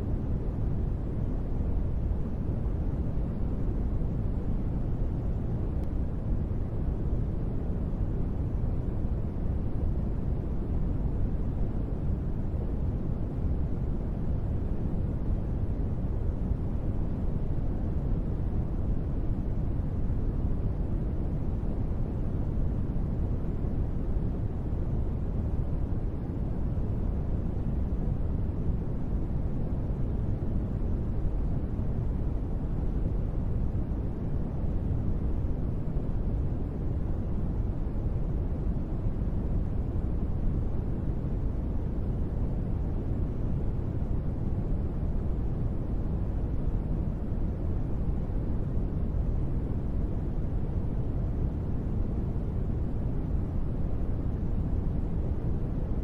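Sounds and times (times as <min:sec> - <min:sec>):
deep rumbling white noise: 0:00.0 - 0:56.0.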